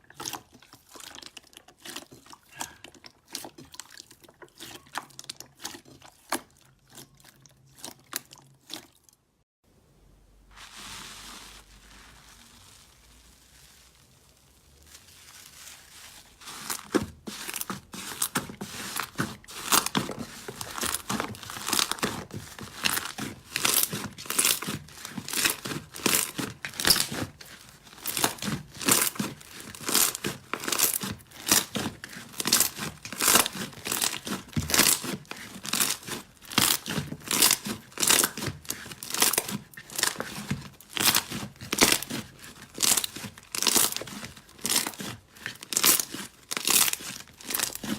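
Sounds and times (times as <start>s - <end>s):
slime squishing by hand: 0.0s - 9.4s, 10.5s - 47.9s.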